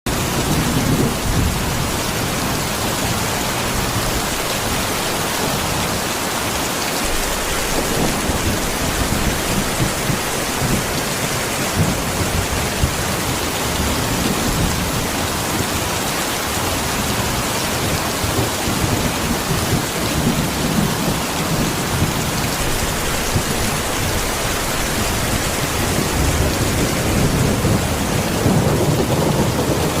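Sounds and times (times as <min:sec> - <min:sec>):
heavy rain falling: 0:00.1 - 0:30.0.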